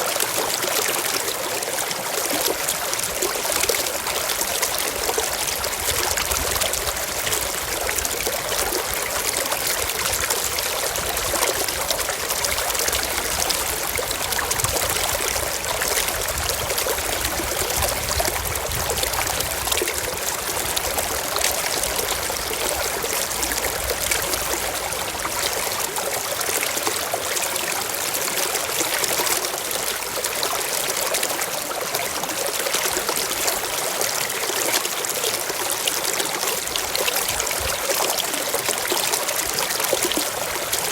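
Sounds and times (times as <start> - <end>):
stream splashing over rocks: 0.0 - 40.9.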